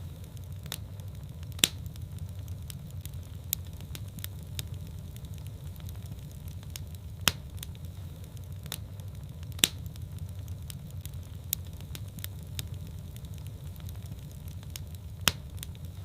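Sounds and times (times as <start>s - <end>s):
fireplace fire crackling: 0.0s - 16.0s
loud fire pops: 0.0s - 16.0s.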